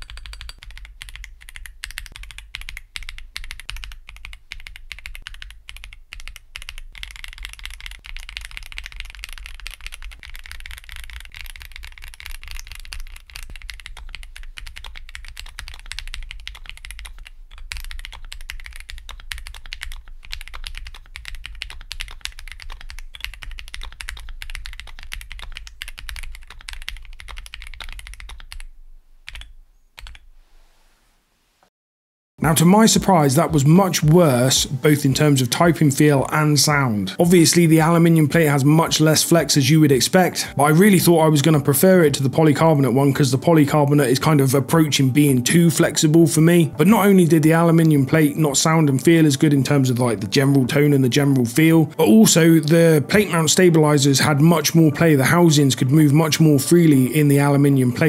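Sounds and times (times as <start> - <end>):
fast keyboard typing: 0.0 - 28.7, 29.3 - 30.2, 32.4 - 58.0.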